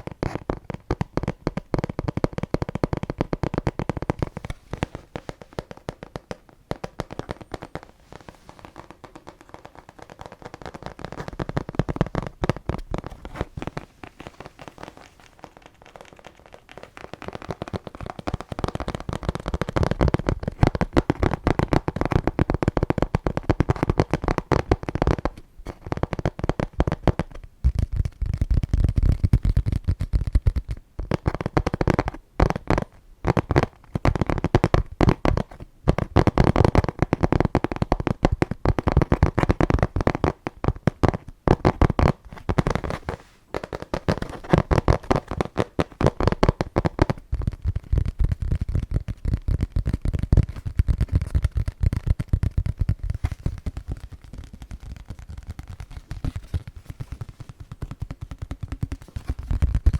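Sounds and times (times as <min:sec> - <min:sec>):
crackling and clicking object: 0:00.0 - 0:59.9.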